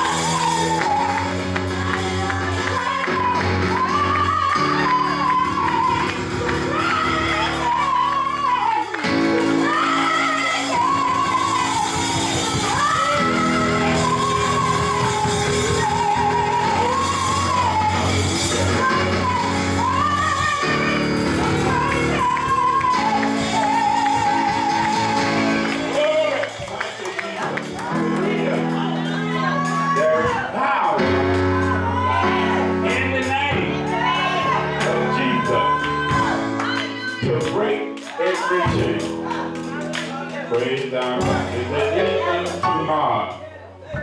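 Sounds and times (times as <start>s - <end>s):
instrumental accompaniment with held chords: 0.0s - 44.0s
person singing gospel melody: 0.0s - 44.0s.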